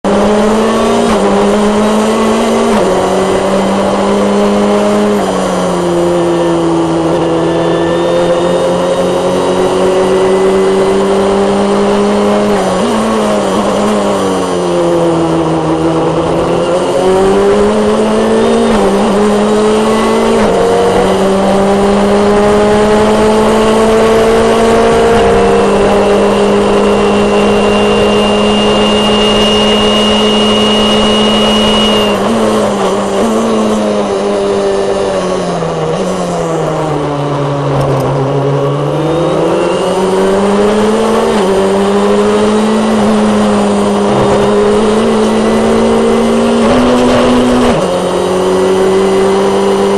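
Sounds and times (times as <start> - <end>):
racing car engine: 0.0 - 49.9.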